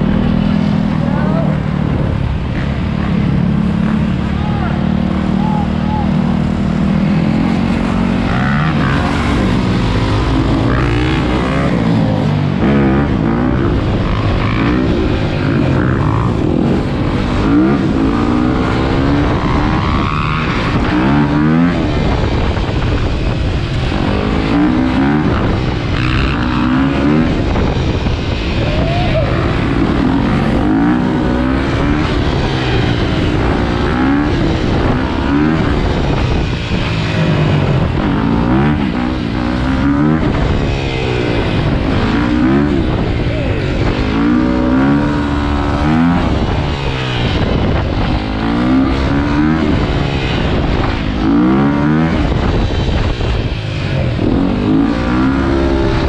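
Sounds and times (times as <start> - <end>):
dirt bike engine revving: 0.0 - 56.0
other dirt bikes and quad: 0.0 - 56.0.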